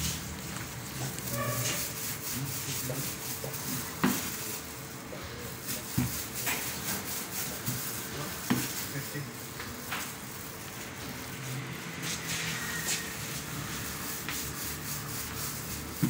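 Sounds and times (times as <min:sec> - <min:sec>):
hands rubbing pizza dough: 0:00.0 - 0:10.8, 0:12.0 - 0:16.0.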